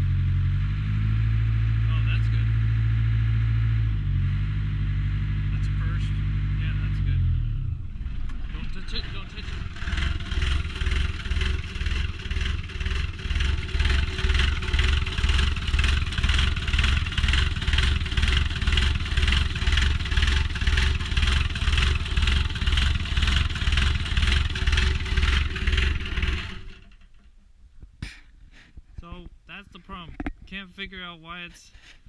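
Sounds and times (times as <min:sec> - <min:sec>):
diesel engine idling rough: 0:00.0 - 0:27.2.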